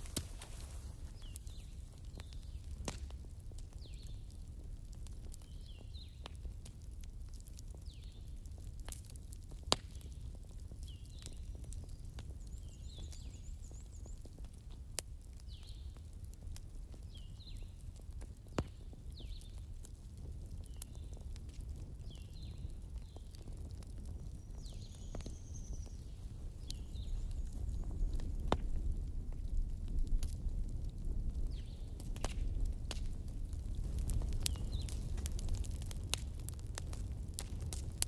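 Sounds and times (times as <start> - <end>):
campfire rumbling and crackling: 0.0 - 38.0
sharp fire pops: 0.0 - 38.0.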